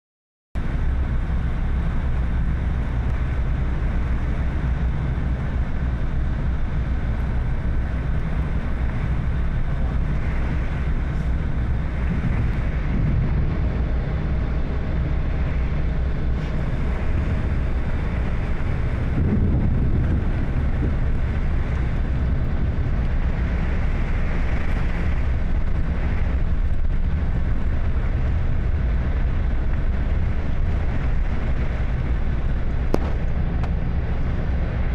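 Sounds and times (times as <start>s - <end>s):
vehicle road and engine rumble: 0.6s - 34.9s.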